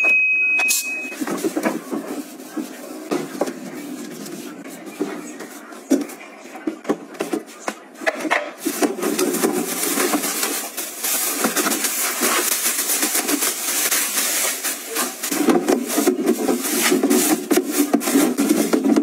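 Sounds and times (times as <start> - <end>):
plastic bin bags rustling: 0.9 - 6.1, 8.6 - 19.0.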